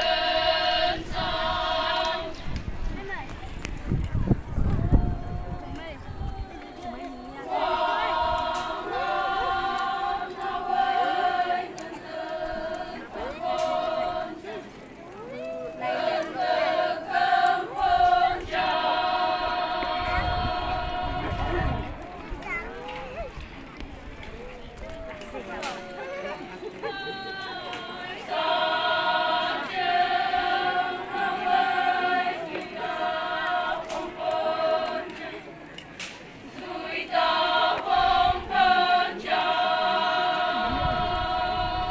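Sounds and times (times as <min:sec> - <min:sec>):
women singing chant in unison: 0:00.0 - 0:02.7, 0:04.6 - 0:14.8, 0:15.7 - 0:22.3, 0:26.8 - 0:35.6, 0:36.5 - 0:41.9.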